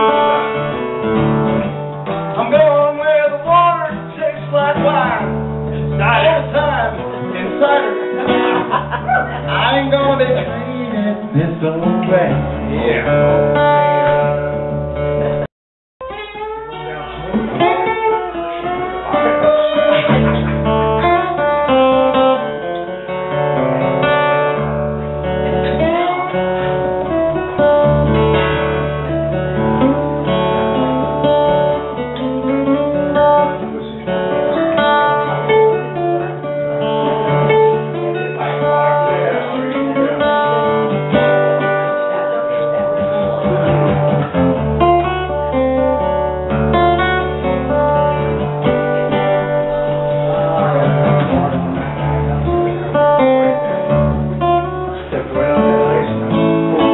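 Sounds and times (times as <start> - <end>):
solo acoustic guitar: 0.0 - 56.9.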